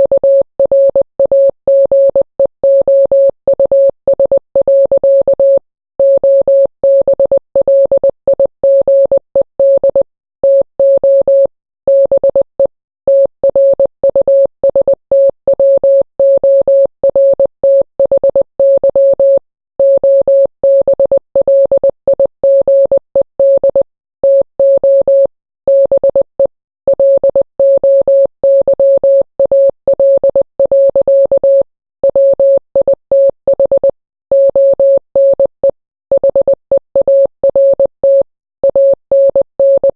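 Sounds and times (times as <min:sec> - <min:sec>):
morse code beeps: 0:00.0 - 0:12.5, 0:13.1 - 0:39.9.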